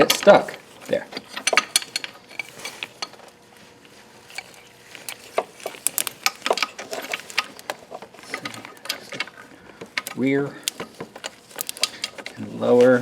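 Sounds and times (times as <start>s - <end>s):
metal parts clinking: 0.0s - 3.2s, 4.3s - 13.0s.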